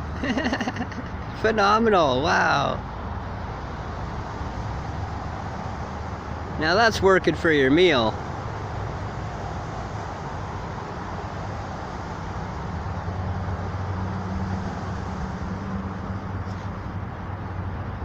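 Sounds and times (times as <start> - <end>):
low engine hum: 0.0 - 18.0
road traffic rumble: 0.0 - 18.0.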